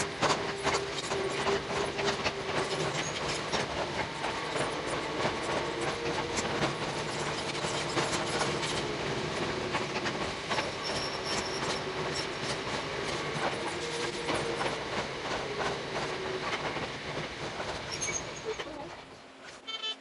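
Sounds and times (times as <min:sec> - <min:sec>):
train wheels clicking rapidly: 0:00.0 - 0:18.5
steady train hum: 0:00.0 - 0:20.0.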